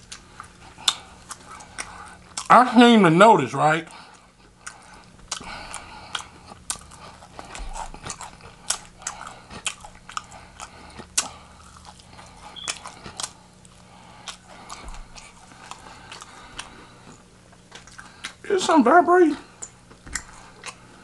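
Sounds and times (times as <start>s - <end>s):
crunchy chewing of fried chicken: 0.0s - 21.0s.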